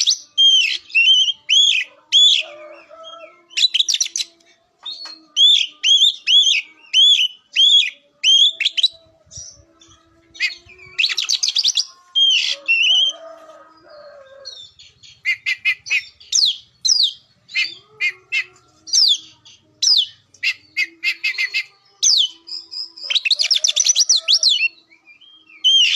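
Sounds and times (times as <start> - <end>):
songbird whistling and chattering: 0.0 - 13.2, 13.9 - 25.9.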